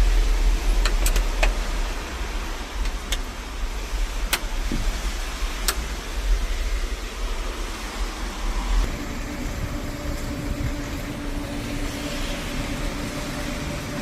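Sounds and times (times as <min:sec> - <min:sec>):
excavator engine humming: 0:00.0 - 0:14.0.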